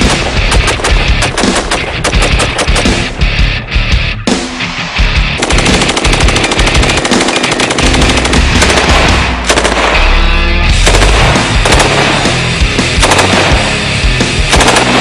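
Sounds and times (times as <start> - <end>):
rapid rifle gunfire: 0.0 - 3.2, 5.4 - 15.0
loud background music: 0.0 - 15.0.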